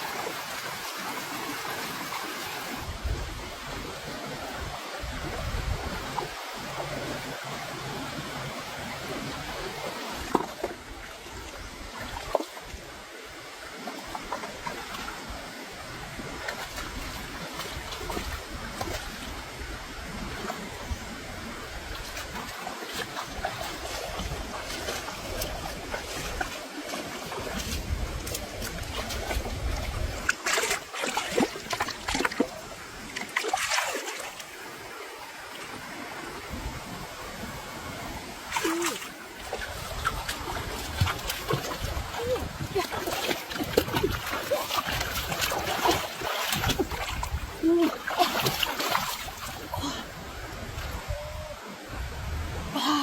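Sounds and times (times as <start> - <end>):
moving water like surf: 0.0 - 53.0.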